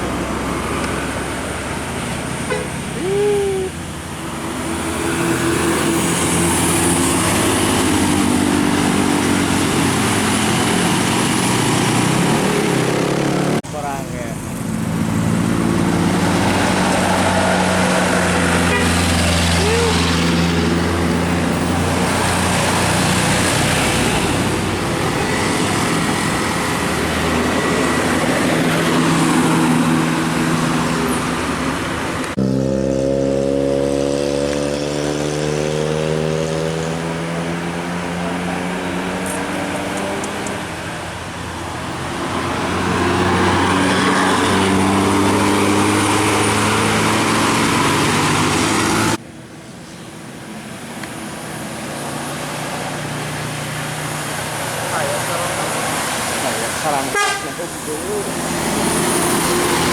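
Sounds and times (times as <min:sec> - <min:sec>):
bus engines droning: 0:00.0 - 0:59.9.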